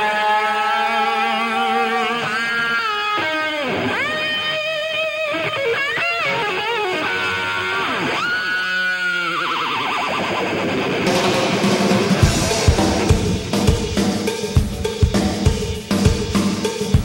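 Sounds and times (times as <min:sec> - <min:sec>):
guitar with bending notes: 0:00.0 - 0:17.0.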